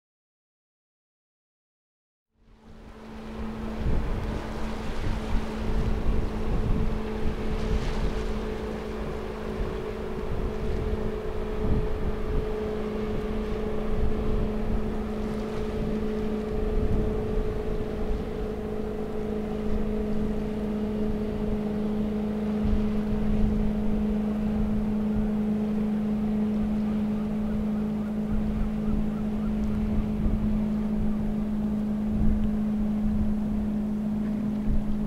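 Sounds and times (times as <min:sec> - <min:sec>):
boat engine hum: 0:02.3 - 0:35.0
wind on microphone: 0:02.4 - 0:35.0.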